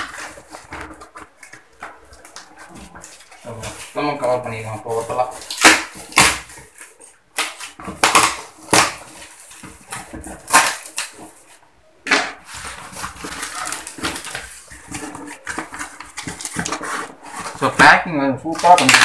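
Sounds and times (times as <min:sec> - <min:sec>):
cardboard and tape ripping: 0:00.0 - 0:11.5, 0:12.4 - 0:19.0
cardboard crackling and scraping: 0:00.0 - 0:11.6, 0:12.4 - 0:19.0.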